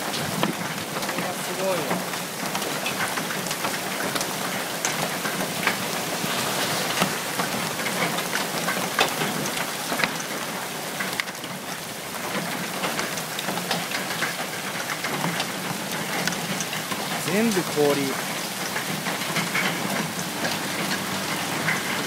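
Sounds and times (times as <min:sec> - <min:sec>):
heavy hail pelting: 0:00.0 - 0:22.0.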